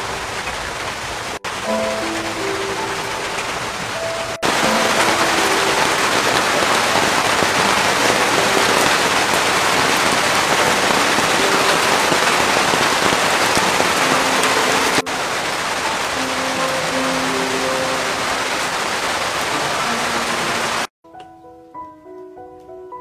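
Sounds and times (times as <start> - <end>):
heavy rain: 0.0 - 20.9.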